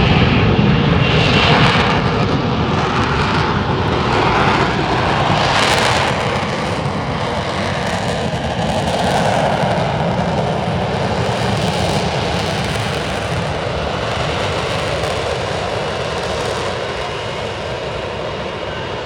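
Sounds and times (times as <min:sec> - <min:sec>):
aircraft engine in flight: 0:00.0 - 0:19.0.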